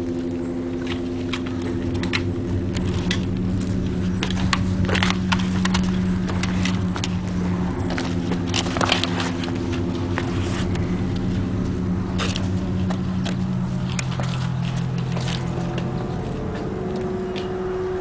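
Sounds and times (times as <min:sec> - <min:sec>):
footsteps crunching on gravel: 0:00.0 - 0:18.0
low droning hum: 0:00.0 - 0:18.0.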